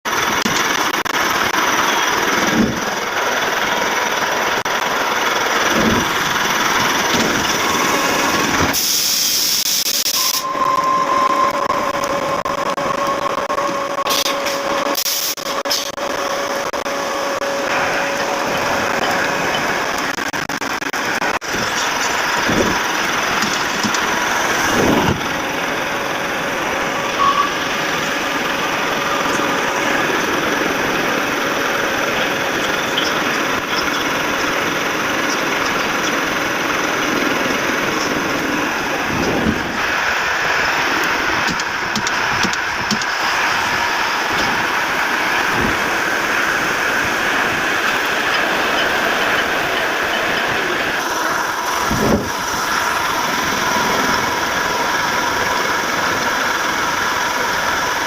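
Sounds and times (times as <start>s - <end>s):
lathe mechanical hum: 0.1s - 58.0s.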